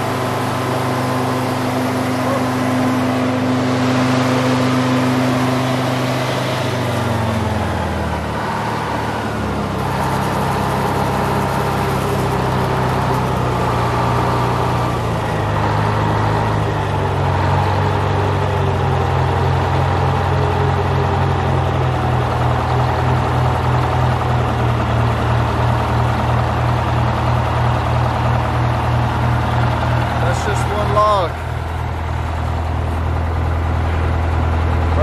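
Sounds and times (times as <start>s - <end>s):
diesel engine throttling down: 0.0s - 35.0s.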